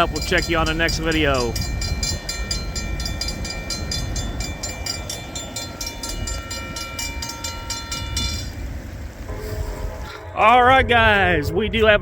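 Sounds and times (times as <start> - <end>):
low rumble: 0.0 - 12.0
railroad crossing bell ringing: 0.0 - 12.0.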